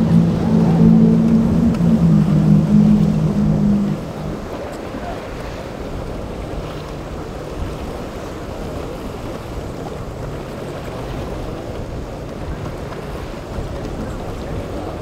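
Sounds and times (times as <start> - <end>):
breaking water rushing: 0.0 - 15.0
outboard motor running: 0.0 - 15.0
wind buffeting microphone: 0.0 - 15.0.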